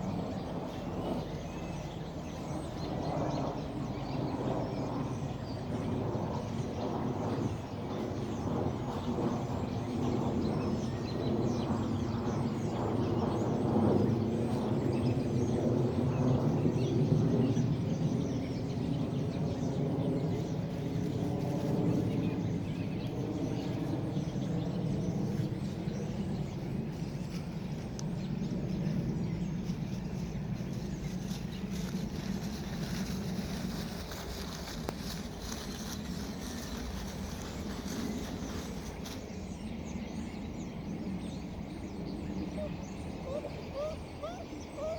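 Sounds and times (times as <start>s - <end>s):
airplane engine drone: 0.0s - 44.9s
faint birds chirping: 0.0s - 44.9s.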